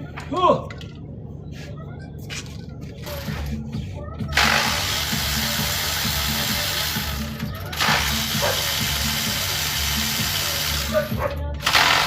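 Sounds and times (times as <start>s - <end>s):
background music with steady beat: 1.3s - 12.0s.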